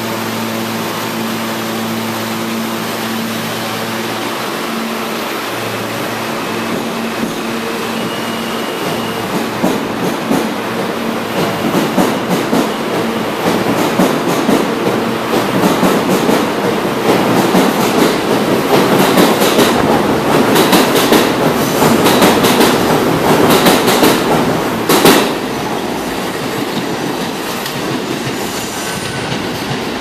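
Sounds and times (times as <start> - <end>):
subway train electrical hum: 0.0 - 30.0
train wheels clacking over rails: 2.9 - 30.0.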